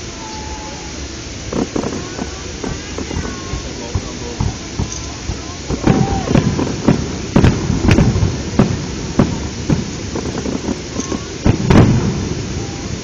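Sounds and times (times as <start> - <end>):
background hiss: 0.0 - 13.0
fireworks bangs: 0.2 - 13.0.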